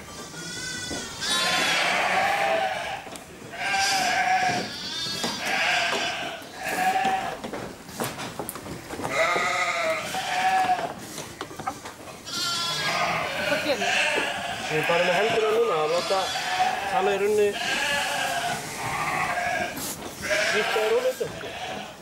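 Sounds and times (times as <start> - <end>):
sheep bleating: 0.1 - 7.4, 9.1 - 11.0, 12.2 - 22.0.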